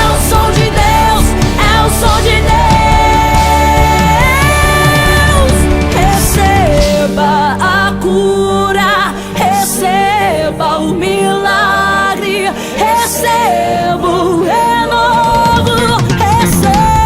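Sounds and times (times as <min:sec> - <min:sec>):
woman singing with vibrato: 0:00.0 - 0:17.0.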